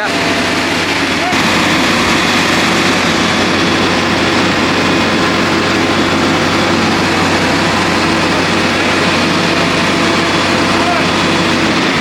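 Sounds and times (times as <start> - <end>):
large engine idling: 0.0 - 12.0.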